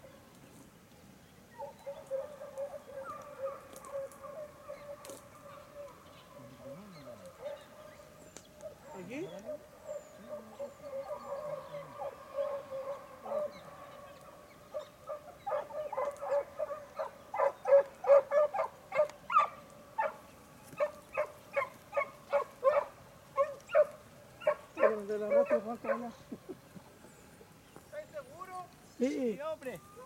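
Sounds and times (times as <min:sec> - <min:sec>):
dogs barking: 0:01.6 - 0:26.6.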